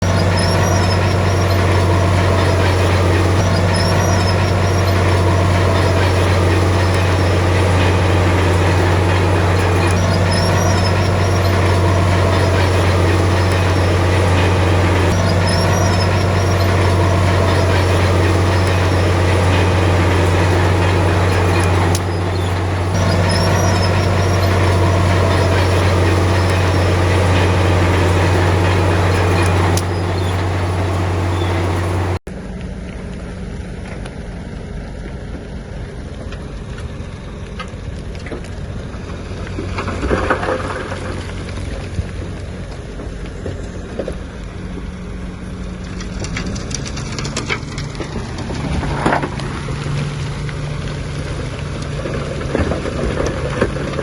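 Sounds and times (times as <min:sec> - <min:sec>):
bulldozer diesel engine running: 0:00.0 - 0:32.3, 0:38.6 - 0:54.0.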